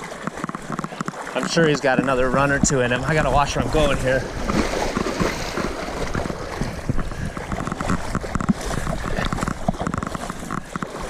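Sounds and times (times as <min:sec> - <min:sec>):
water sloshing around legs: 0:00.0 - 0:11.0.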